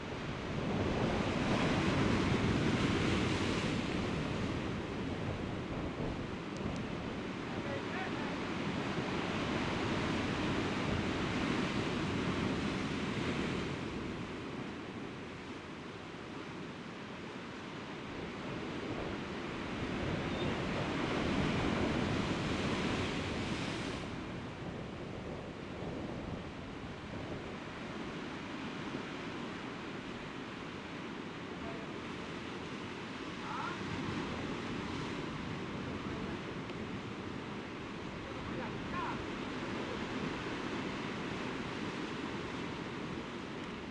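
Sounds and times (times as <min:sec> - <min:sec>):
surf washing against rocky shore: 0:00.1 - 0:14.6, 0:18.4 - 0:24.9, 0:25.8 - 0:43.9.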